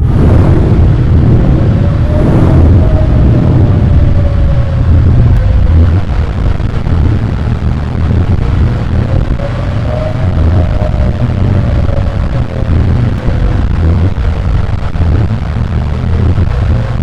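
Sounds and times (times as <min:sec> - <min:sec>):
deep continuous rumble: 0:00.0 - 0:17.0
heavy rain: 0:00.0 - 0:17.0
tornado siren: 0:00.0 - 0:17.0.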